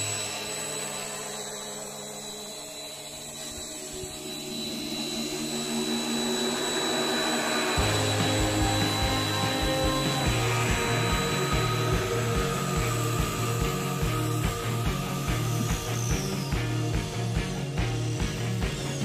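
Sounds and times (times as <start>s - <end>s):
model helicopter motor whining: 0.0s - 19.0s.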